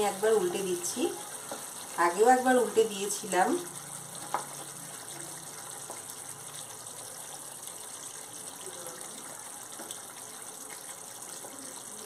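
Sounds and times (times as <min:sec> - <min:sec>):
curry bubbling and sizzling: 0:00.0 - 0:12.0.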